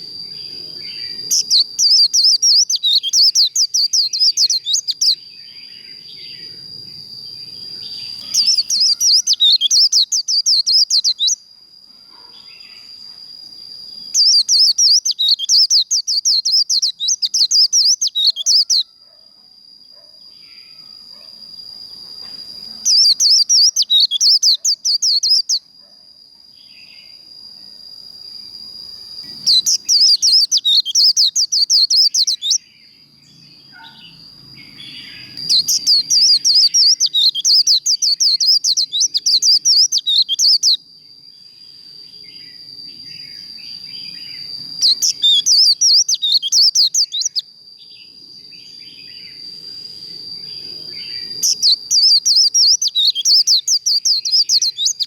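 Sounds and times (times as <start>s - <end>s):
bird twittering song: 0.0s - 11.4s, 13.6s - 18.9s, 22.2s - 25.7s, 28.8s - 40.8s, 41.4s - 55.0s.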